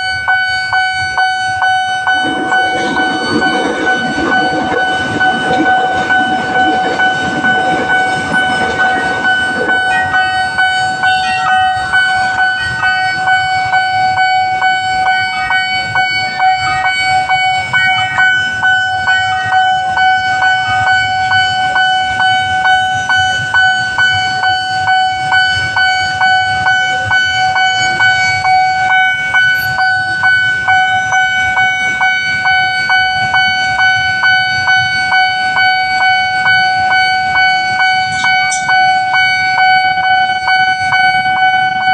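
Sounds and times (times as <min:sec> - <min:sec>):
level crossing warning alarm: 0:00.0 - 0:41.9
passing train rumble: 0:00.0 - 0:41.9.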